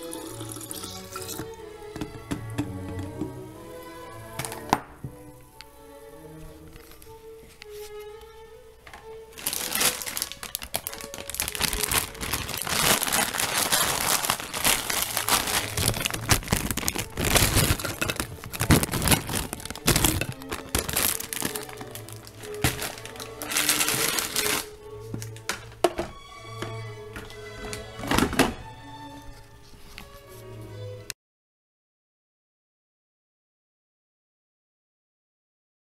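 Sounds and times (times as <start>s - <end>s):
background music: 0.0s - 31.2s.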